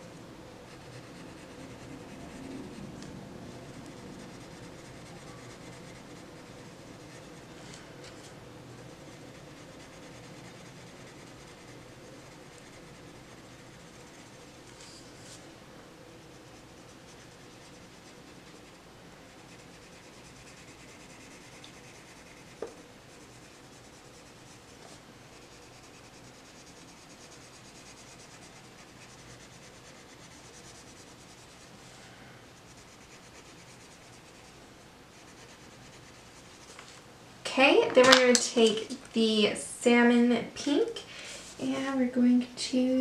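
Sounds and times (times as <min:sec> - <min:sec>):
pencil scratching on paper: 0:00.7 - 0:15.5, 0:16.2 - 0:31.8, 0:32.6 - 0:36.8.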